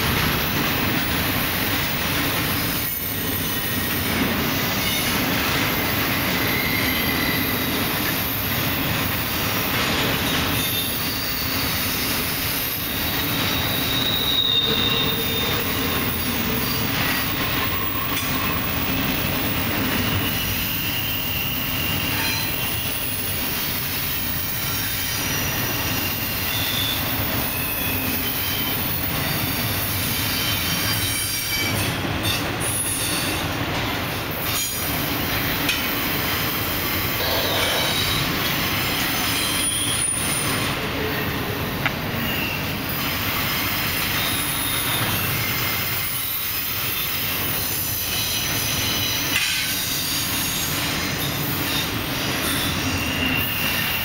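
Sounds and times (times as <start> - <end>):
freight train wheels on rails: 0.0 - 54.0
high wheel squeals: 1.8 - 9.0, 10.1 - 33.6, 35.9 - 41.4, 42.1 - 54.0.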